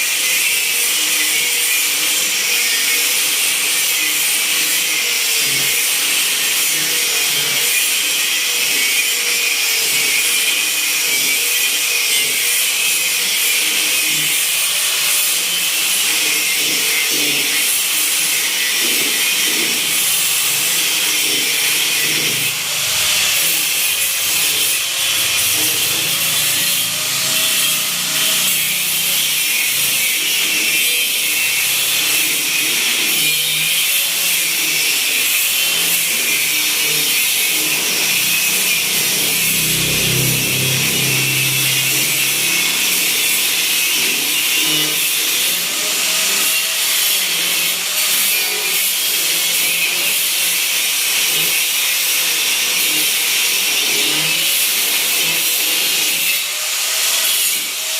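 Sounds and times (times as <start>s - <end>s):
power tool grinding: 0.0s - 57.9s.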